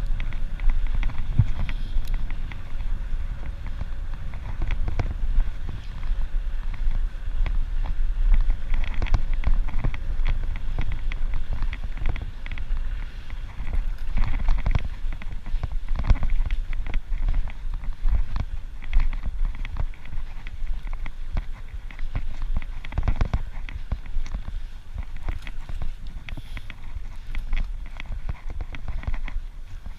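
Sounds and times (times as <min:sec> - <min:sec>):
bike clicks and rattles: 0:00.0 - 0:29.9
wind buffeting microphone: 0:00.0 - 0:29.9.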